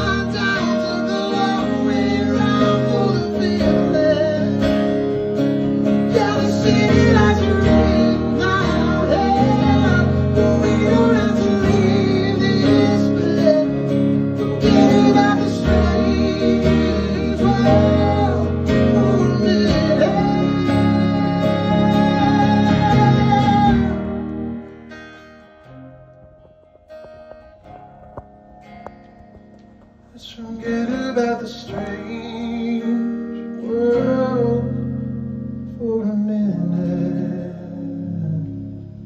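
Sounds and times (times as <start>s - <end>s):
person singing wordless melody: 0.0s - 5.0s, 6.0s - 24.3s, 30.1s - 39.0s
acoustic guitar strumming: 0.0s - 39.0s.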